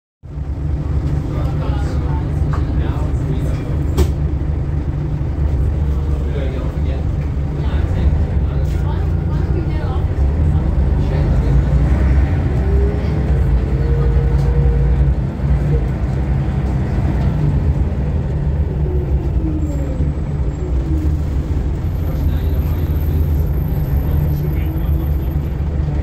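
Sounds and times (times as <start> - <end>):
low diesel engine drone: 0.2 - 26.0.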